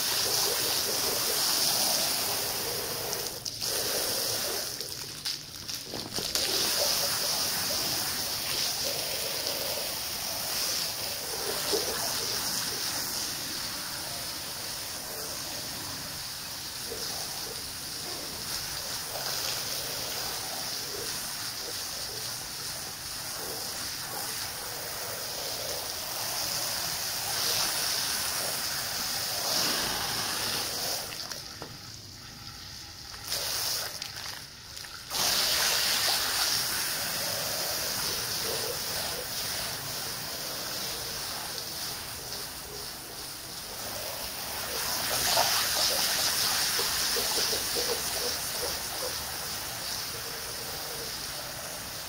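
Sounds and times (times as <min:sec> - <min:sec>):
hose spraying water on carpet: 0:00.0 - 0:52.0.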